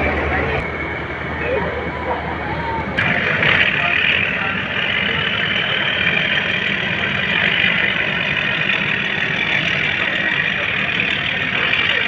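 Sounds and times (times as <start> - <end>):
ferry engine rumble: 0.0 - 12.0
propellers churning water: 0.0 - 12.0.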